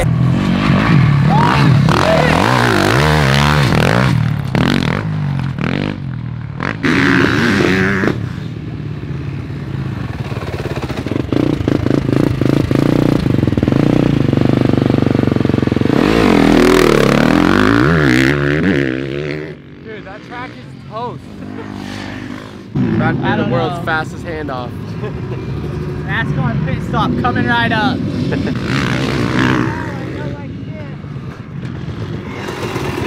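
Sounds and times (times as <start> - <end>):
motorbike engines revving: 0.0 - 33.0.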